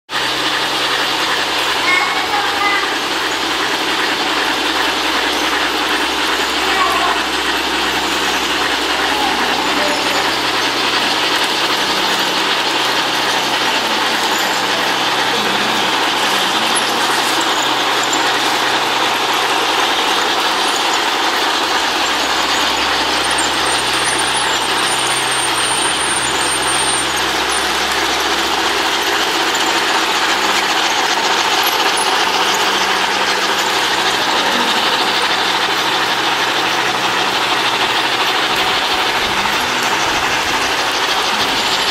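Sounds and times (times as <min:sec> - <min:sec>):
model trains whirring on track: 0:00.1 - 0:41.9.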